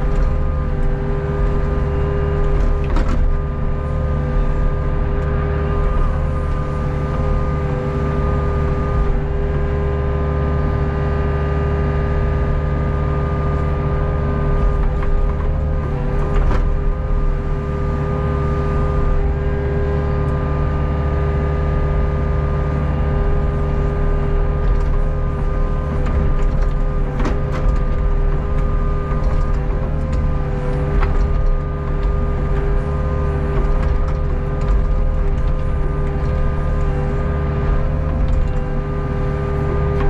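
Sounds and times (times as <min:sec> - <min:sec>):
excavator diesel engine running: 0:00.0 - 0:40.0
hydraulic whine: 0:00.0 - 0:40.0.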